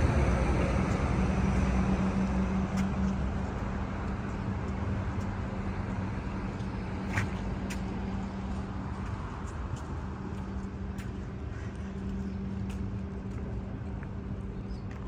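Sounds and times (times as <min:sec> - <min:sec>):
rumble of vehicles: 0:00.0 - 0:15.0.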